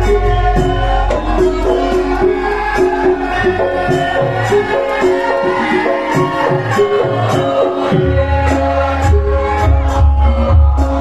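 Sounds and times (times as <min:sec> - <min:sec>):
sharp percussion strokes: 0:00.0 - 0:11.0.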